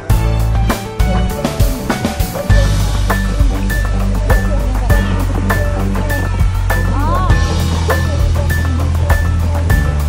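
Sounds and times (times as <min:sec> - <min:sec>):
music with steady beat and heavy bass: 0:00.0 - 0:10.0.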